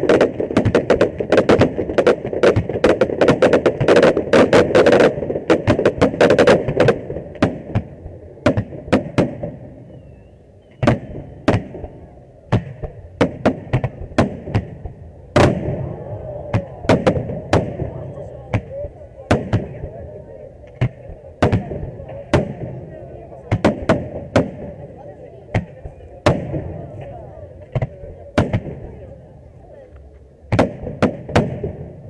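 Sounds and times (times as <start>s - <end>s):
fireworks bangs and crackle: 0.0s - 32.0s.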